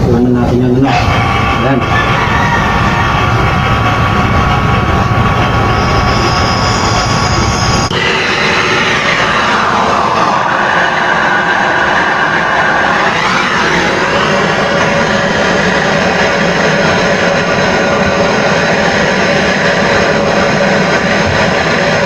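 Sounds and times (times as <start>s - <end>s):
gas torch hissing: 0.0s - 22.0s.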